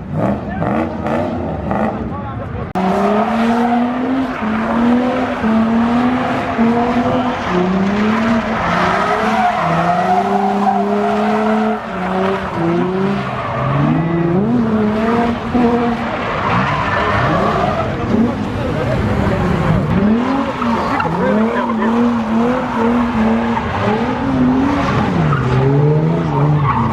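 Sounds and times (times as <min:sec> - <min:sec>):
car engine at high revs: 0:00.0 - 0:26.9.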